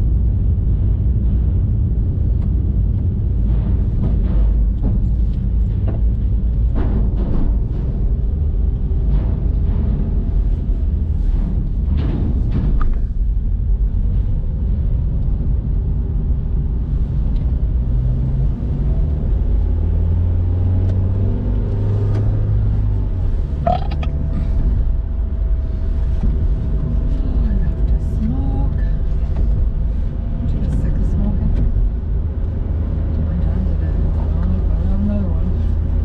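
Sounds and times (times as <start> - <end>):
car interior rumble: 0.0 - 36.0.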